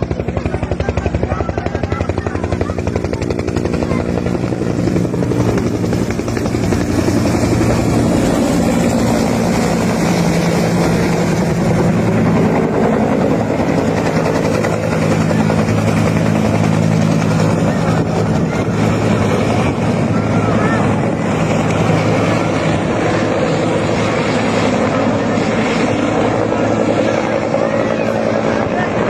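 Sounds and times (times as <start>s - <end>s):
helicopter rotor chopping: 0.0s - 29.0s.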